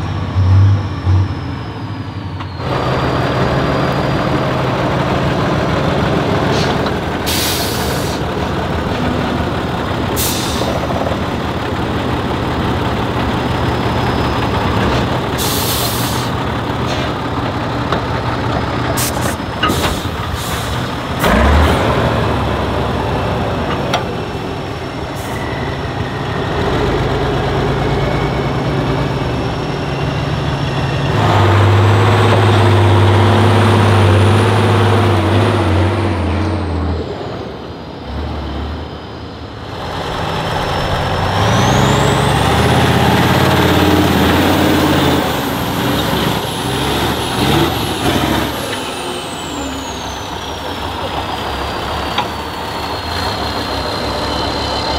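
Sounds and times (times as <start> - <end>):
diesel truck engine revving: 0.0 - 54.9.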